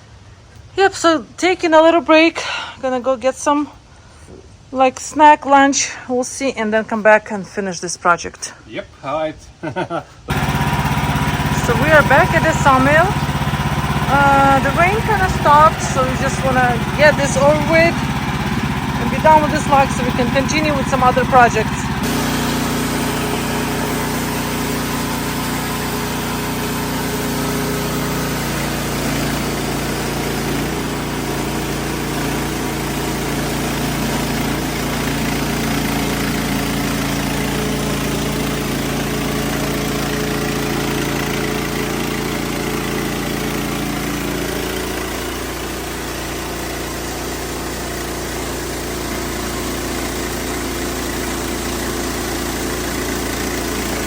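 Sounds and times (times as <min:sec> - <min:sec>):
sawmill gas engine running: 0:10.2 - 0:54.0.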